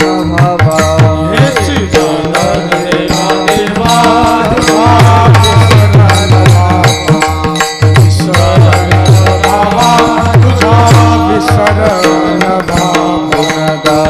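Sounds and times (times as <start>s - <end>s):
held melody line: 0.0s - 14.0s.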